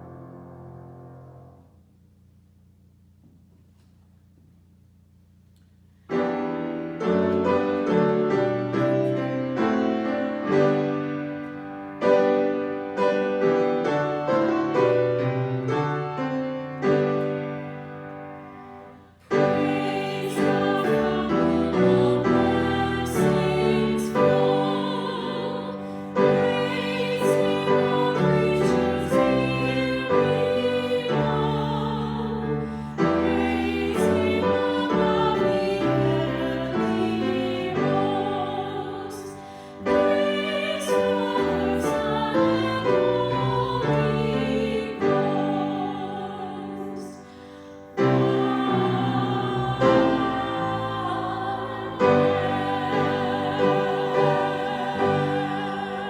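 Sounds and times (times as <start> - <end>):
slow hymn on piano: 0.0 - 1.9, 6.0 - 56.0.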